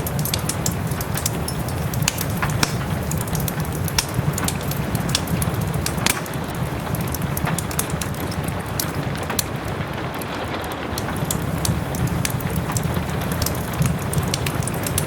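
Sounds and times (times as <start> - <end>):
soft rain: 0.0 - 15.0
wood fire crackling: 0.0 - 15.0.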